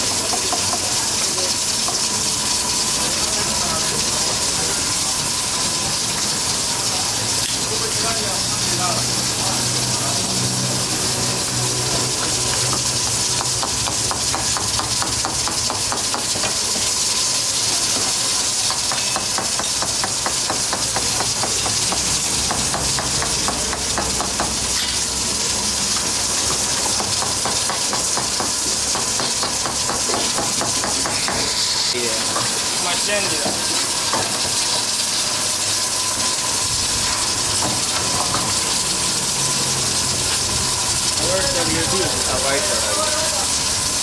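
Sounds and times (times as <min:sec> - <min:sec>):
steam and gas burners hissing: 0:00.0 - 0:44.0.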